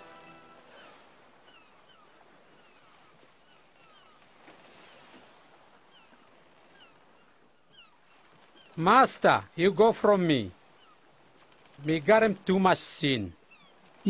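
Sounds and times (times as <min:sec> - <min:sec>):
water lapping: 0:00.0 - 0:14.0.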